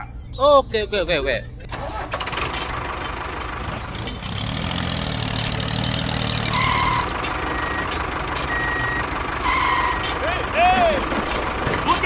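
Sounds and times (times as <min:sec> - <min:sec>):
toy vehicle engine rumble: 0:01.7 - 0:12.0.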